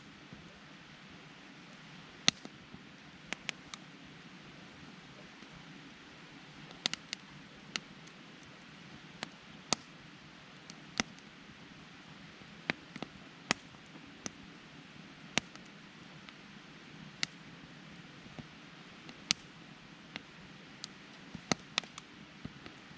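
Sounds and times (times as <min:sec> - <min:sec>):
campfire crackling and popping: 0:00.0 - 0:22.9
soft steady hiss: 0:00.0 - 0:22.9.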